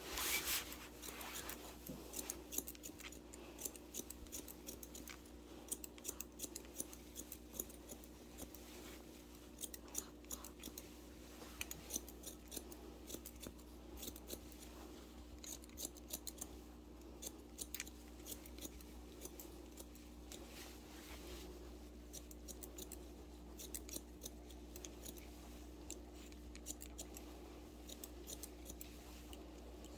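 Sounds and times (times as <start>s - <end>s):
faint steady hum: 0.0s - 29.9s
shears snipping hair: 0.0s - 29.9s.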